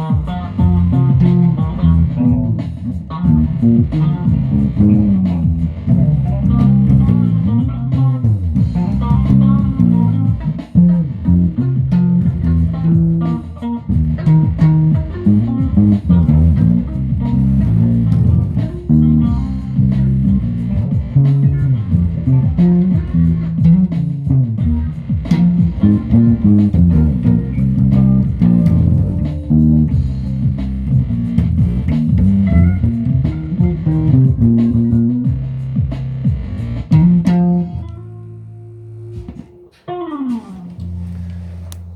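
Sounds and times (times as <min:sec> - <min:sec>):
plucked guitar music: 0:00.0 - 0:35.6, 0:36.3 - 0:41.9
bass line: 0:00.0 - 0:41.9.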